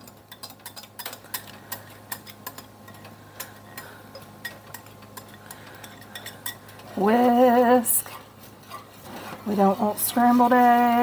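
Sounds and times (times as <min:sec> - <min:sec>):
low steady hum: 0:00.0 - 0:11.0
whisk scraping a glass bowl: 0:00.0 - 0:11.0.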